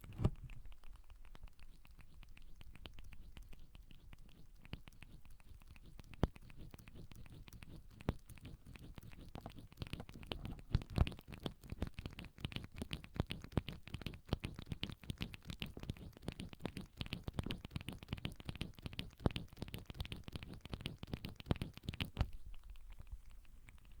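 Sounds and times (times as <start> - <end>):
lobsters clicking and scratching: 0.0 - 24.0.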